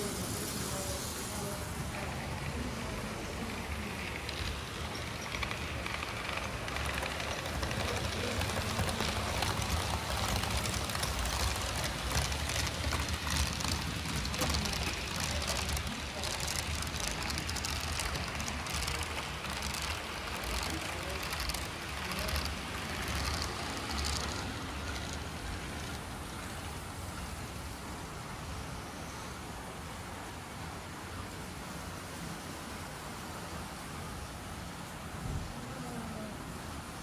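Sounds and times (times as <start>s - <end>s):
model train rumbling on track: 0.0s - 37.0s.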